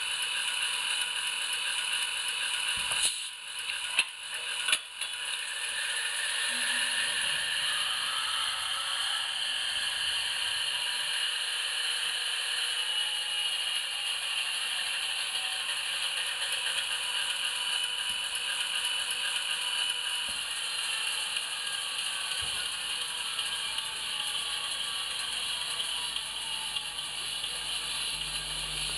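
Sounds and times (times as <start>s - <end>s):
model locomotive whirring and rattling: 0.0s - 28.9s.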